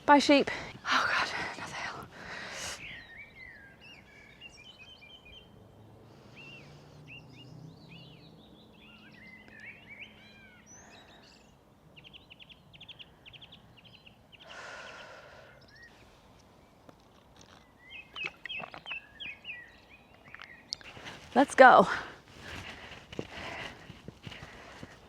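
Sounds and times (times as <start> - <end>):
songbirds chirping and whistling: 0.0 - 25.0.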